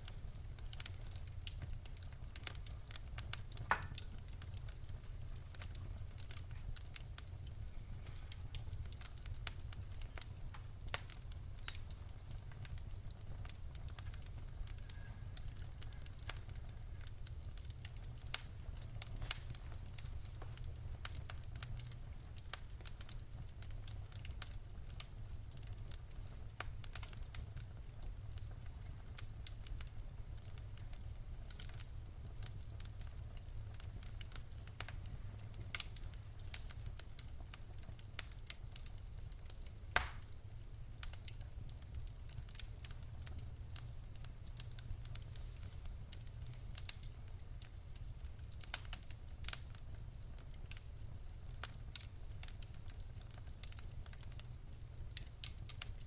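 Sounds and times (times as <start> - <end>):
loud fire pops: 0.0 - 50.0
burning logs crackling: 0.0 - 56.0
low rumble of flames: 0.0 - 56.0.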